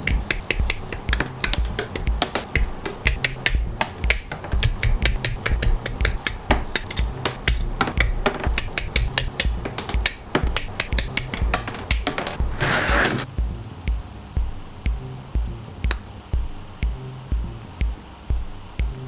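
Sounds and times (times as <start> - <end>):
music with low beat: 0.0 - 19.0.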